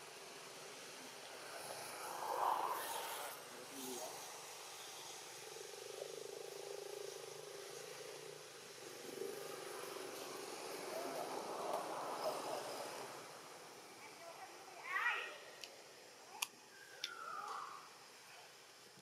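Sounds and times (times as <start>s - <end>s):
faint outdoor background noise: 0.0s - 19.0s.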